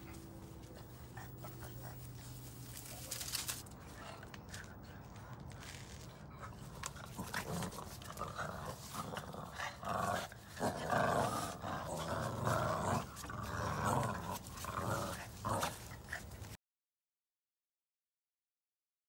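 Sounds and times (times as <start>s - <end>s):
puppies play-growling: 0.0s - 16.6s.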